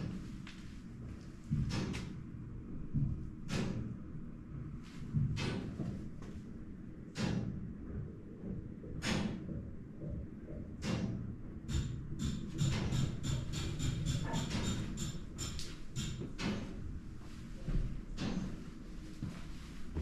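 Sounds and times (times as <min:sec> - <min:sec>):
steady low rumble: 0:00.0 - 0:12.6, 0:15.2 - 0:20.0.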